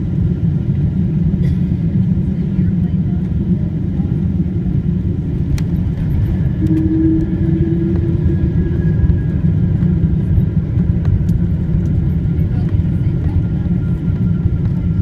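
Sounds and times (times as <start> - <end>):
airliner cabin engine rumble: 0.0 - 15.0
faint hum: 0.0 - 15.0.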